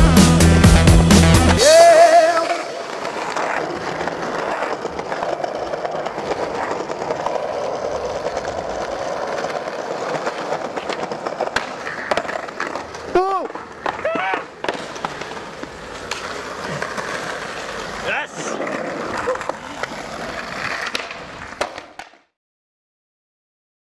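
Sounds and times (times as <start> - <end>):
skateboard wheels rolling on stone: 0.0 - 22.3.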